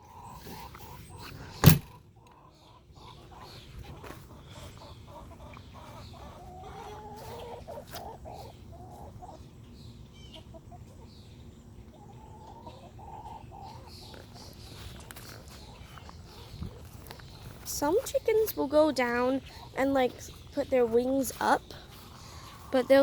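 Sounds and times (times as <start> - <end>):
hens clucking: 0.0 - 23.0.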